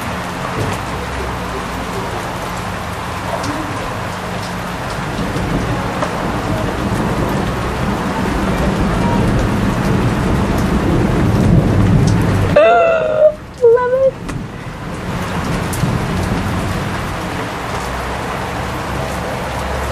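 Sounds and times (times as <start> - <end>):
rain falling on pavement: 0.0 - 19.9
water dripping: 0.0 - 19.9.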